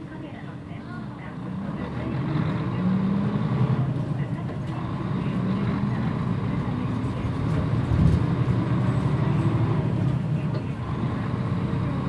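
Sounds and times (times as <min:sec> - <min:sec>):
bus diesel engine drone: 0:00.0 - 0:12.0.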